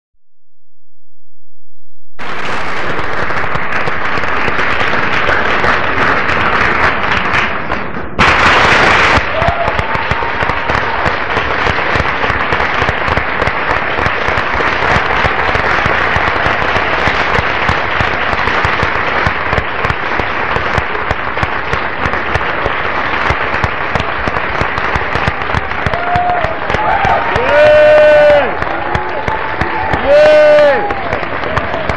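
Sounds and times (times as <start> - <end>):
large audience applauding: 2.2 - 31.9.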